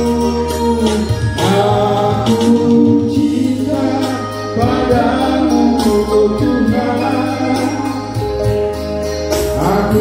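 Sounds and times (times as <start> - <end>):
man singing through microphone: 0.0 - 8.7, 9.3 - 10.0
steady bass notes: 0.0 - 10.0.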